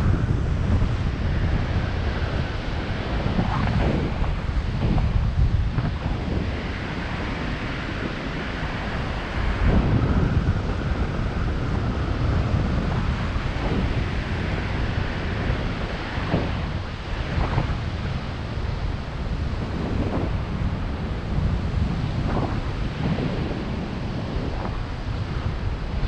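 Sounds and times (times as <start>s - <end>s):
wind buffeting the microphone: 0.0s - 26.0s.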